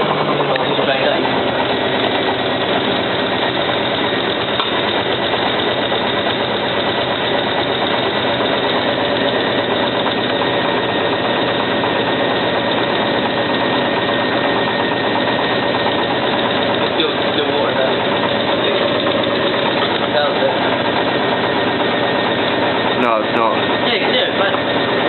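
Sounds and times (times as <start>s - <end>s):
washing machine drum spinning: 0.0s - 25.0s.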